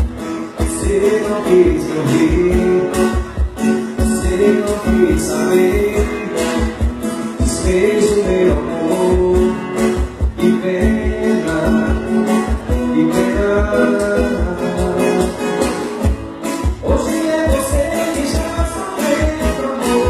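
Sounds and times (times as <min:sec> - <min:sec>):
live band music: 0:00.0 - 0:20.0
person singing: 0:00.5 - 0:15.8, 0:16.7 - 0:20.0.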